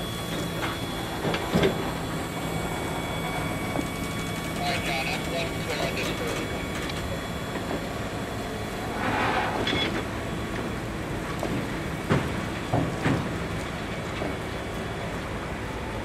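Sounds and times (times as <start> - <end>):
rumble of wheels on rail: 0.0 - 16.0.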